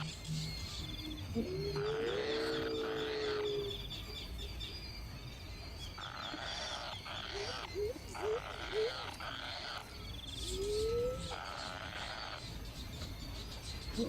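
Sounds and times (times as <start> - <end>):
nestling birds raspy calls: 0.0 - 5.1, 5.7 - 14.0
faint high bird trills: 0.0 - 14.0.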